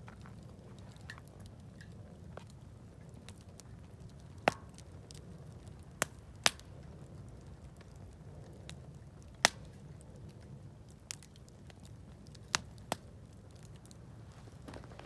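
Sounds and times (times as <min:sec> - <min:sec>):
burning wood popping: 0:00.0 - 0:15.0
campfire crackling: 0:00.0 - 0:15.0.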